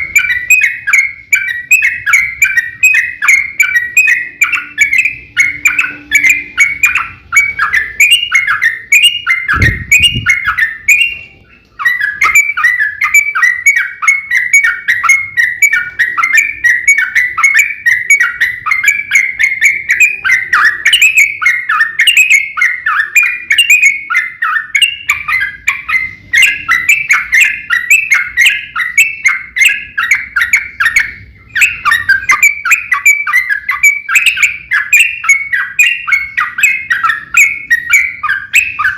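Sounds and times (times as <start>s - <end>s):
bird warbling chatter: 0.0s - 38.9s.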